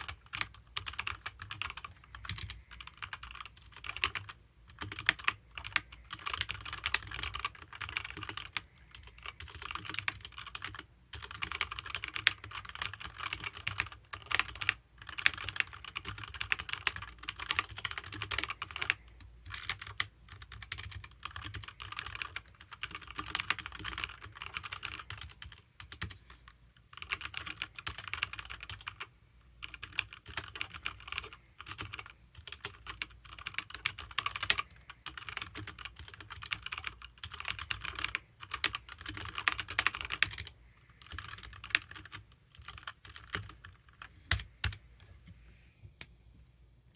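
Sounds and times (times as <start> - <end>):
mechanical keyboard typing: 0.0 - 26.2, 26.8 - 44.8.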